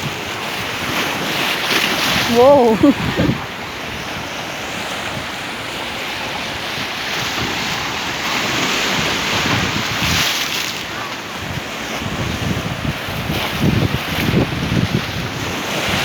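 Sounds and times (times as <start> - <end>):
sea waves breaking on shore: 0.0 - 16.0
wind buffeting microphone: 0.0 - 16.0.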